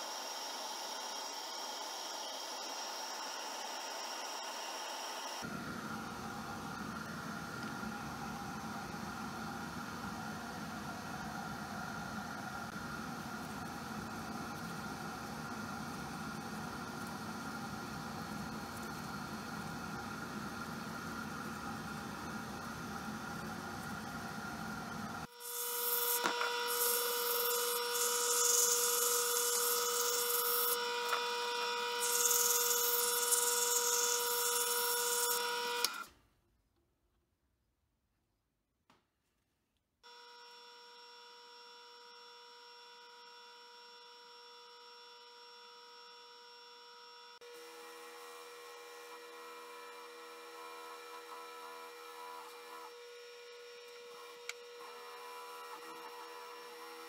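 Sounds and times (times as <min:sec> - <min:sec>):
wood lathe motor whine: 0:00.0 - 0:36.1, 0:40.1 - 0:57.0.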